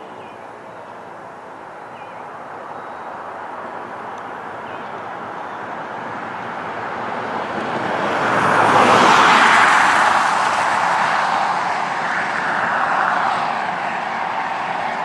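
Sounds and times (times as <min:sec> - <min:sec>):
car passing by: 0:02.7 - 0:15.0.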